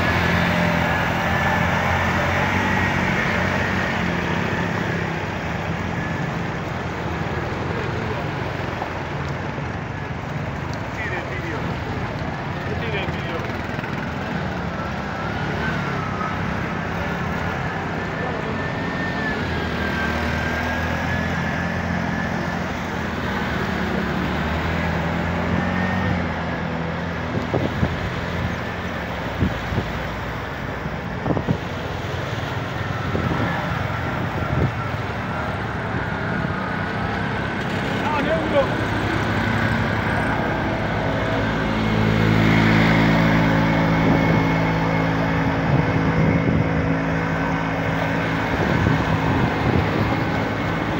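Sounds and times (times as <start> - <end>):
vehicle engines running: 0.0 - 50.9
water churned by wheels: 0.0 - 50.9.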